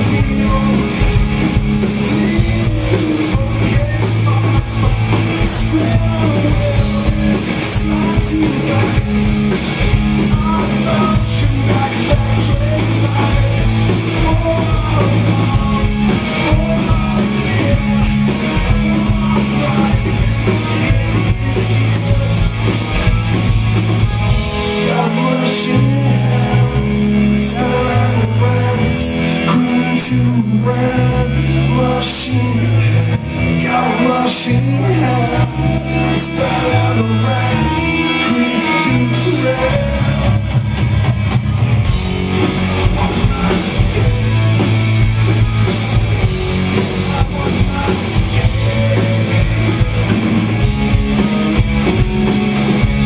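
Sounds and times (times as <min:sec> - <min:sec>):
person singing: 0:00.0 - 0:40.6, 0:42.4 - 0:51.3
bass guitar: 0:00.0 - 0:53.0
distorted electric guitars: 0:00.0 - 0:53.0
drum kit: 0:00.0 - 0:53.0.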